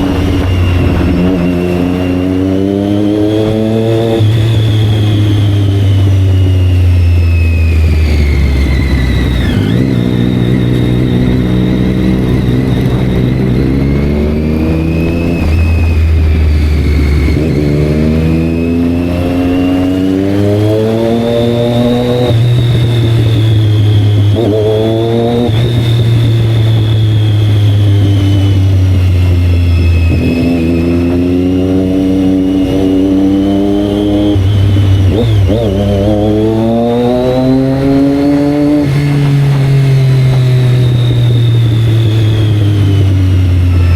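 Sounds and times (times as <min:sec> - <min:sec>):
low engine drone: 0:00.0 - 0:43.9
motorcycle engines revving: 0:00.0 - 0:43.9.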